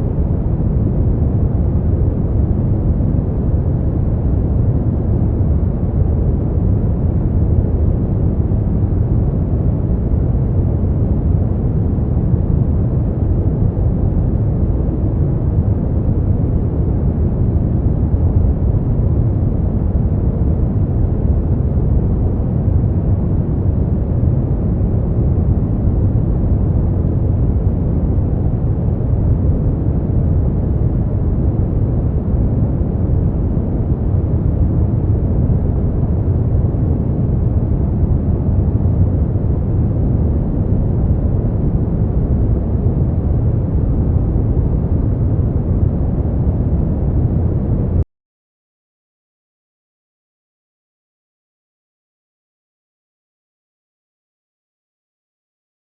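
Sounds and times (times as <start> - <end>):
brown noise: 0.0 - 48.0.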